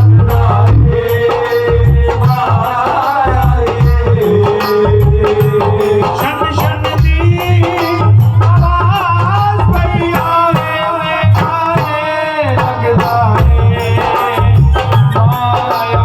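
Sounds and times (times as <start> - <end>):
hand drum beat: 0.0 - 16.0
person singing wavering vocal: 0.0 - 16.0.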